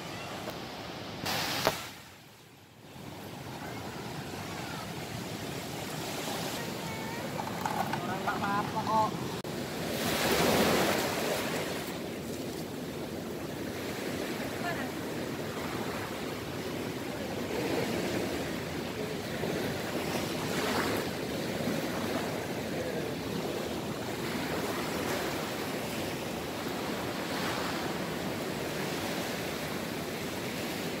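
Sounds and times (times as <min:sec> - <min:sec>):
small waves breaking on beach: 0:00.0 - 0:31.0.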